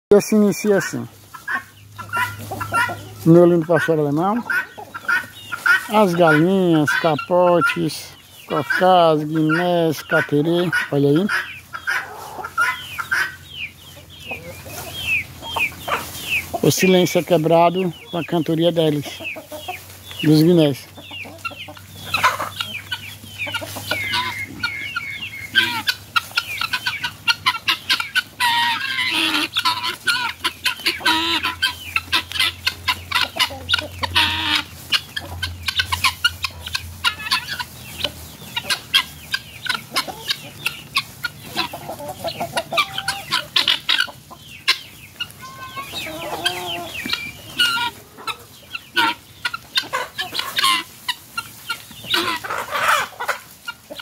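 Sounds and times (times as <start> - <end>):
chickens clucking: 0.1 - 54.0
guinea fowl calling: 0.1 - 54.0.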